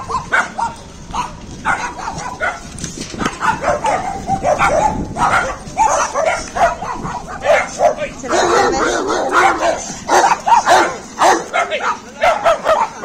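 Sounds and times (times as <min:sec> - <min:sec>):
small dogs barking: 0:00.0 - 0:13.0.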